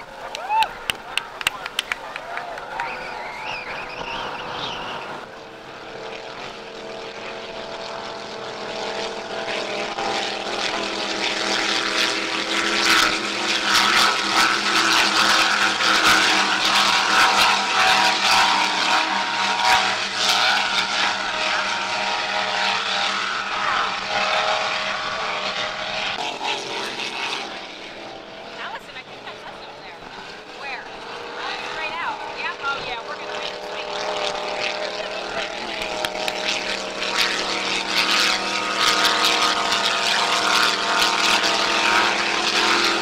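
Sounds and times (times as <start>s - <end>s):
powerboat engines droning: 0.0s - 43.0s.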